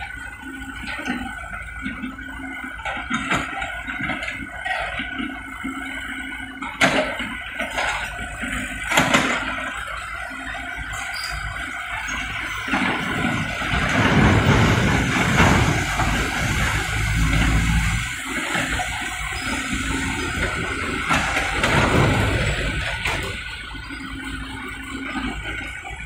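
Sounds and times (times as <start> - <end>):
excavator diesel engine under load: 0.0 - 26.0.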